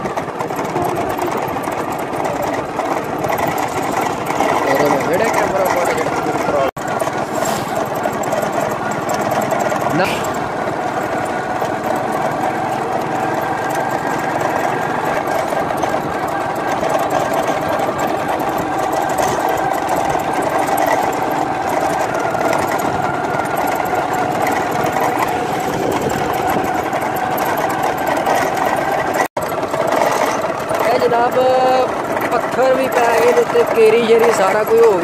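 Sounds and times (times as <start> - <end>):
small motorcycle engine running: 0.0 - 35.0.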